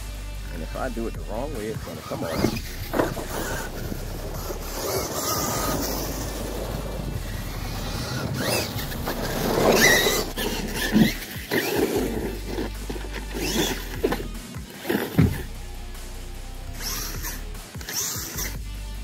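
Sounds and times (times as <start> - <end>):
tyre noise on asphalt: 1.1 - 18.6
electric motor whine: 1.2 - 18.6.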